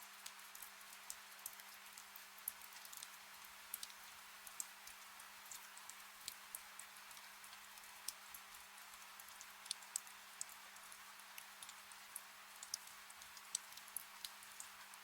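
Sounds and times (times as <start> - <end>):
gentle rain hiss: 0.0 - 15.0
raindrops ticking: 0.2 - 12.0, 12.6 - 15.0.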